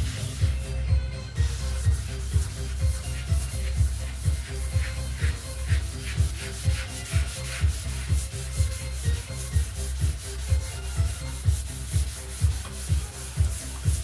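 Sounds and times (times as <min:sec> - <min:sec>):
background music with beat: 0:00.0 - 0:14.0
sandpaper rubbing on fiberglass: 0:00.0 - 0:14.0.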